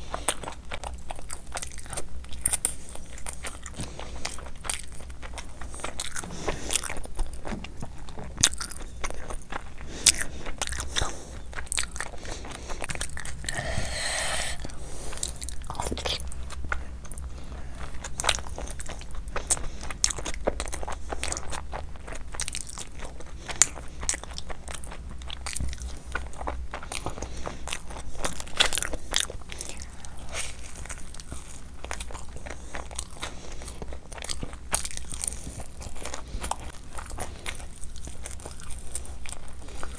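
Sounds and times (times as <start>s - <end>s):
person chewing and biting: 0.0s - 39.9s.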